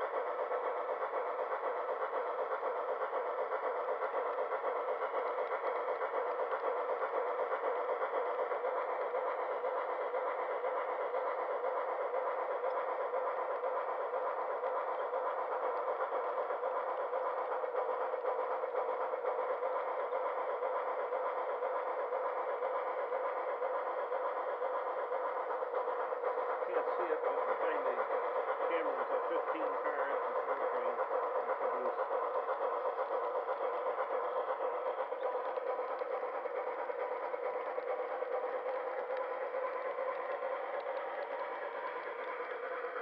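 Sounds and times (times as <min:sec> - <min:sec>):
model train wheels rolling on track: 0:00.0 - 0:43.0.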